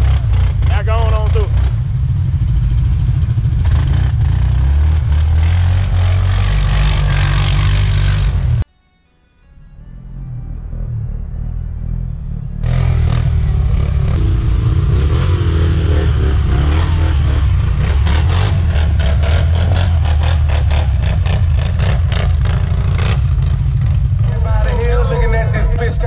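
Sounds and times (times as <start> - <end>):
atv engines revving: 0.0 - 8.6, 9.9 - 26.0.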